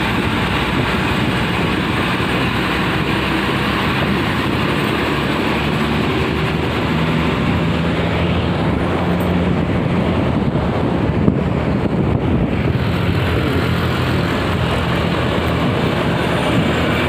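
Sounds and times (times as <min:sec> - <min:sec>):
bus engine running: 0:00.0 - 0:17.0
tyre and road noise: 0:00.0 - 0:17.0.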